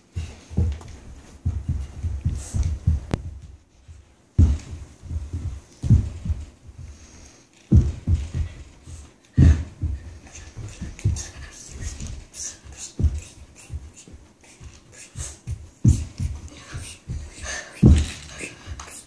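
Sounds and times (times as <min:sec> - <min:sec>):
barefoot stomping on carpet: 0:00.0 - 0:18.9.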